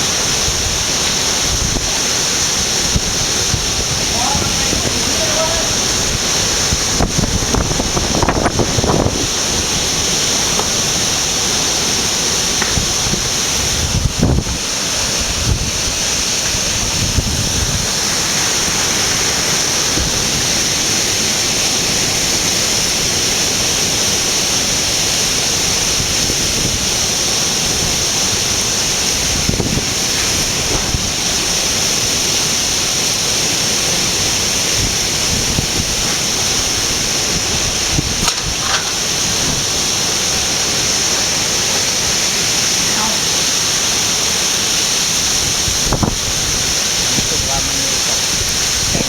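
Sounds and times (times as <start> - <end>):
wind buffeting microphone: 0.0 - 23.0, 25.5 - 42.6, 45.2 - 49.0
heavy rain pouring: 0.0 - 49.0.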